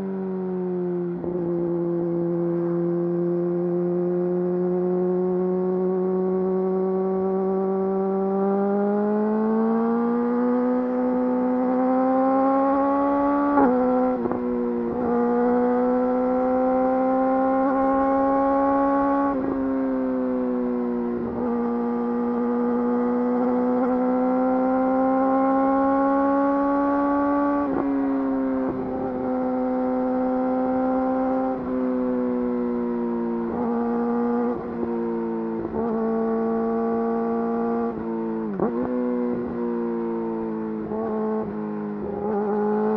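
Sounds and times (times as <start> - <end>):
motorcycle engine revving: 1.2 - 42.9.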